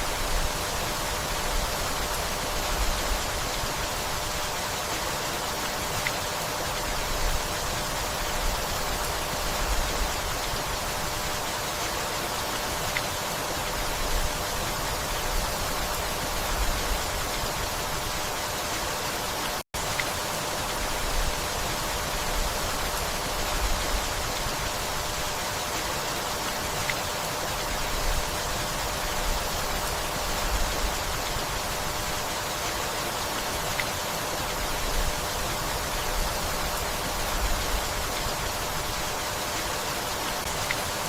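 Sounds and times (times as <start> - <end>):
gentle rainfall hissing: 0.0 - 41.0.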